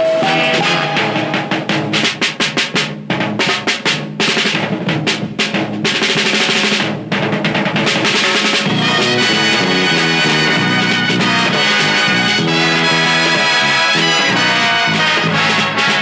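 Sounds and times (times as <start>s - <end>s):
snare and bass drum break: 0.0s - 16.0s.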